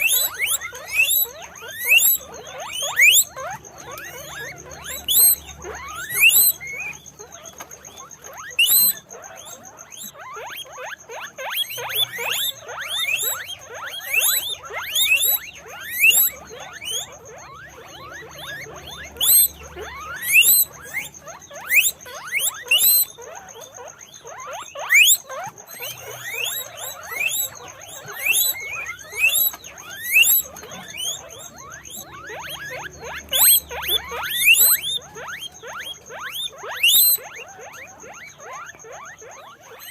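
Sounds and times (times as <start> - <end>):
guinea pigs squeaking: 0.0 - 39.9.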